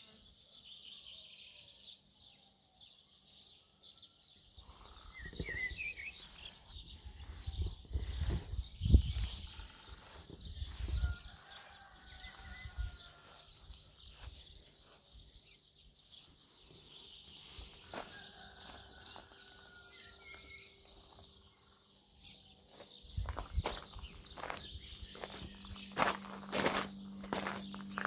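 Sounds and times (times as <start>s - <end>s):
distant birds chirping: 3.6s - 28.0s.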